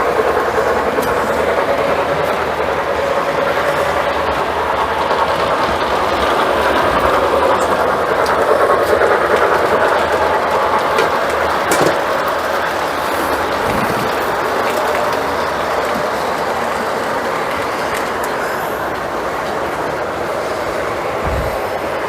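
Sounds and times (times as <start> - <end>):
model train whirring and rattling: 0.0 - 22.0.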